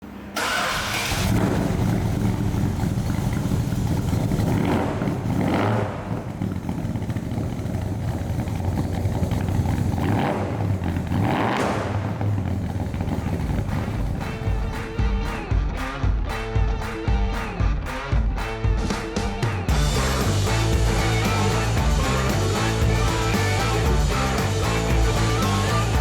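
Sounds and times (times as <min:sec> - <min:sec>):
engine throttle blips: 0:00.4 - 0:15.1, 0:19.7 - 0:26.0
car engine rumbling: 0:00.4 - 0:15.3, 0:19.7 - 0:26.0.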